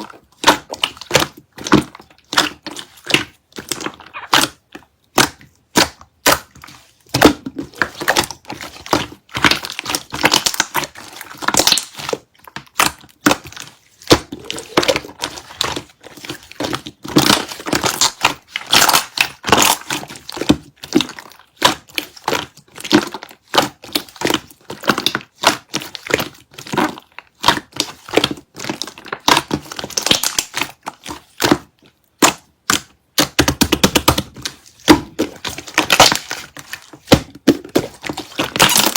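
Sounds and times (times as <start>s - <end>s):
slime kneaded by hand: 0.0s - 38.9s.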